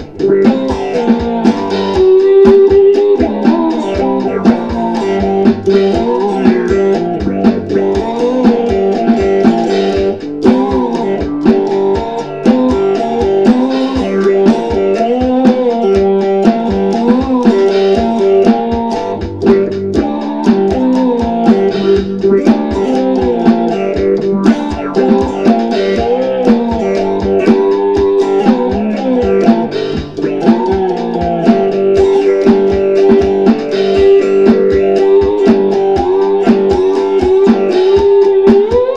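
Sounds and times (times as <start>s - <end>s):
electric slide guitar with wah: 0.0s - 38.9s.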